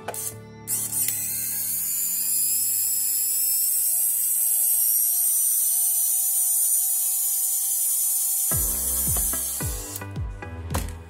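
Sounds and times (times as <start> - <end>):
small electric motor whining: 0.0 - 10.2.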